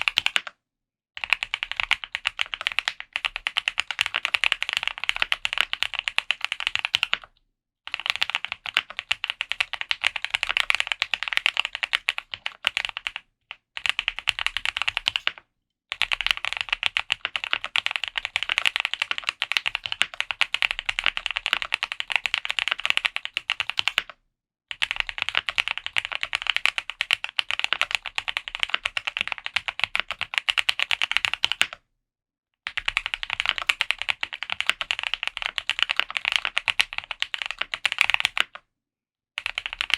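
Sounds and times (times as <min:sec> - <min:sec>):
mechanical keyboard typing: 0:00.0 - 0:00.5, 0:01.2 - 0:13.2, 0:13.8 - 0:31.8, 0:32.7 - 0:38.6, 0:39.4 - 0:39.9.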